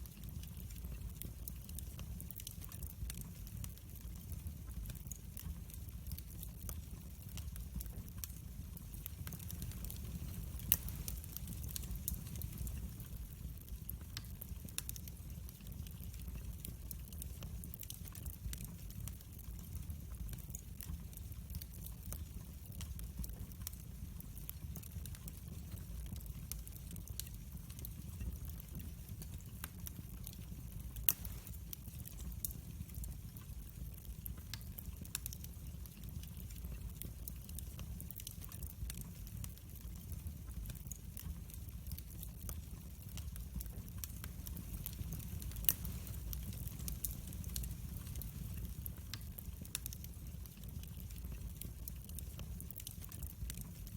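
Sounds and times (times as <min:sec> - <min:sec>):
fire burning with crackles: 0:00.0 - 0:53.9
low rumble of flames: 0:00.0 - 0:53.9.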